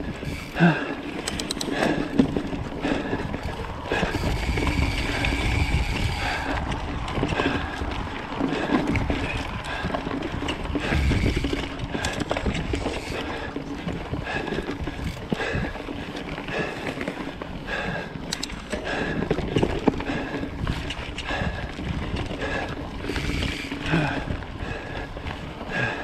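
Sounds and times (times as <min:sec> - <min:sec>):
bike tyres rolling on dirt: 0:00.0 - 0:26.0
wheels knocking on stones: 0:00.0 - 0:26.0.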